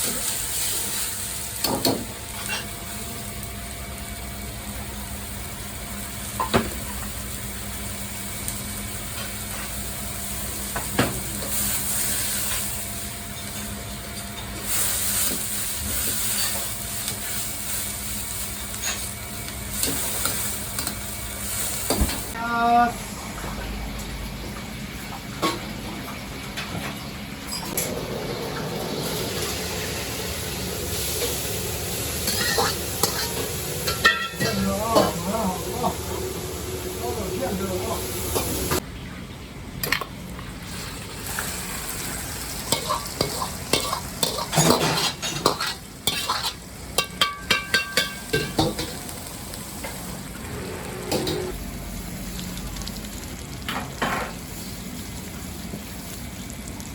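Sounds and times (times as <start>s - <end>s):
food sizzling in a wok: 0.0s - 22.9s, 28.0s - 38.8s, 40.6s - 56.9s.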